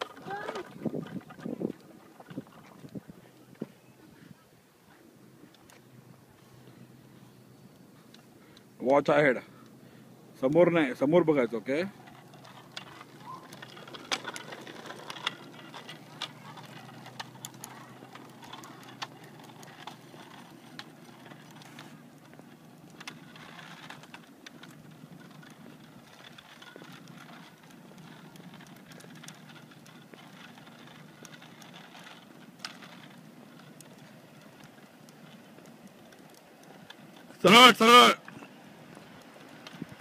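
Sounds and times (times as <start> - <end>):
small wheels rumbling on concrete: 0.0 - 40.0.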